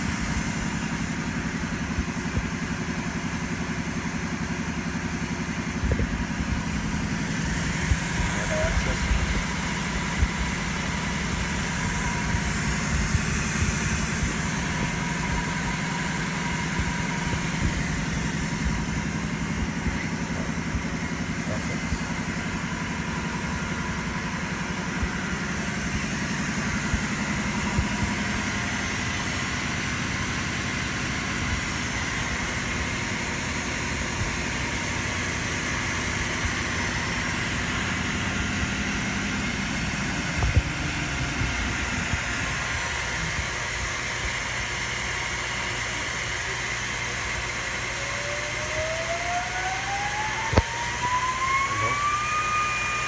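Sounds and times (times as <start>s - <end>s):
milling machine motor hum: 0.0s - 53.0s.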